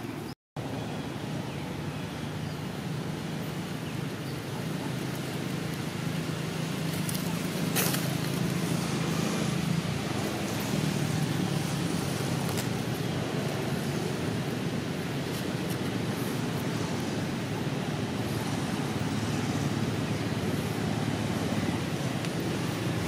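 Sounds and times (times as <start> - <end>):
low hum of distant engine: 0.0 - 23.0.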